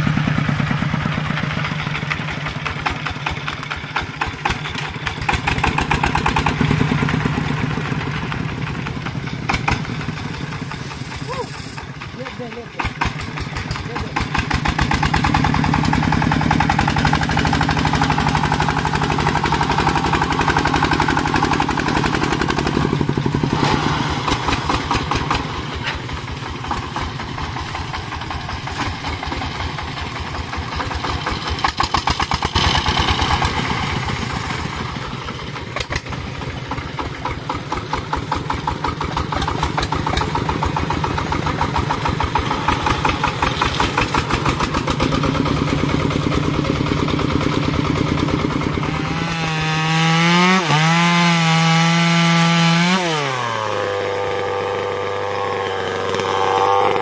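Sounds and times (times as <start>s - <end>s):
diesel tractor engine chugging: 0.0s - 57.0s.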